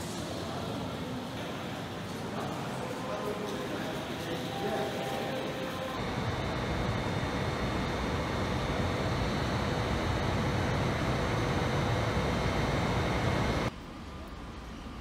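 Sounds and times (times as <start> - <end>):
mall corridor rumble and hiss: 0.0 - 15.0.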